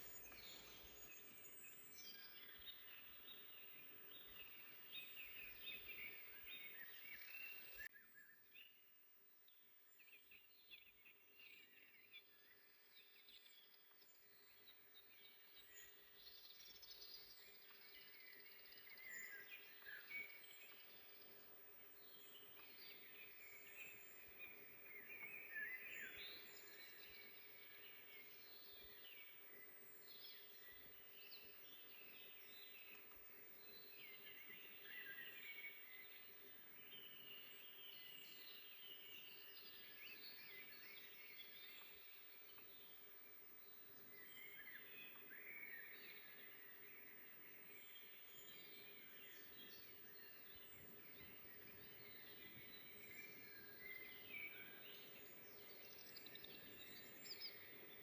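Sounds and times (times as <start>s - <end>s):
birds chirping and trilling: 0.0s - 8.7s, 9.9s - 58.0s.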